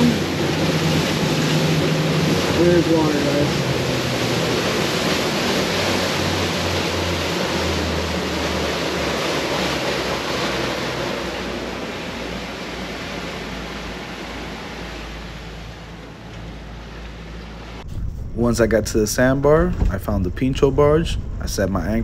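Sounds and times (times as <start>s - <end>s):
low boat engine hum: 0.0s - 22.0s
wind and water rushing past boat: 0.0s - 22.0s.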